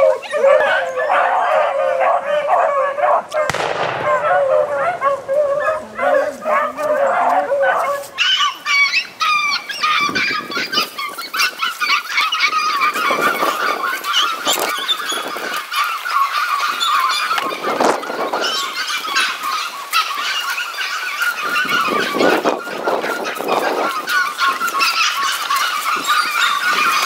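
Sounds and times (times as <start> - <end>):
dogs baying high-pitched: 0.0 - 27.0.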